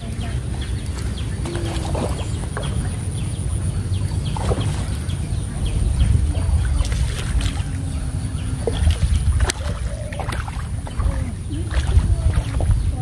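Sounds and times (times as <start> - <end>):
fish splashing in water: 0.0 - 3.2, 3.8 - 13.0
low rumble: 0.0 - 13.0.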